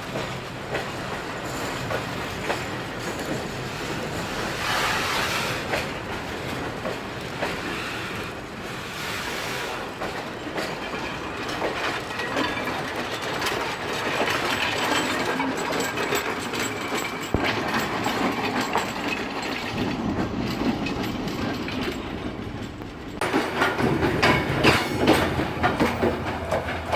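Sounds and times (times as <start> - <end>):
deep train rumble: 0.0 - 26.9
freight train rolling past: 0.0 - 26.9
wheels clattering over rail joints: 0.0 - 26.9.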